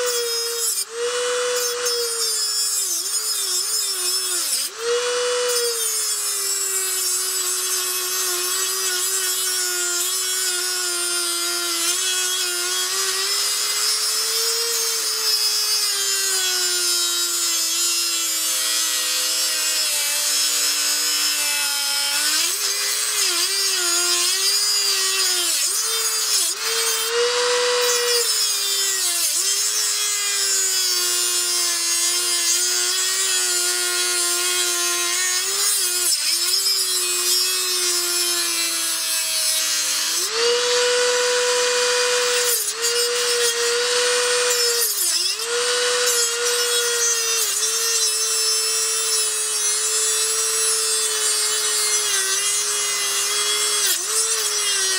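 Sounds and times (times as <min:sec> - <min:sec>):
rotary tool grinding metal: 0:00.0 - 0:54.9.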